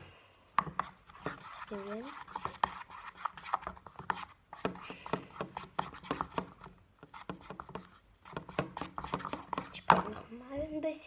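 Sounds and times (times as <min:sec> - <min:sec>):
stick scraping: 0:00.6 - 0:10.2.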